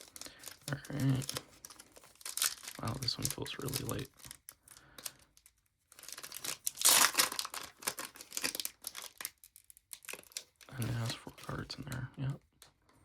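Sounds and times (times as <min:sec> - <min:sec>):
card pack wrapper tearing: 0:00.0 - 0:11.6.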